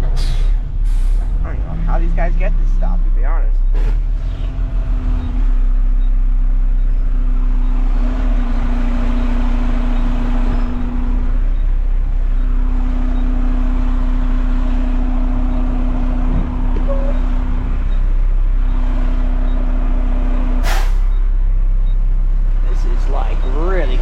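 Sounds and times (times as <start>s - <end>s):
garbage truck engine rumble: 0.0s - 24.0s.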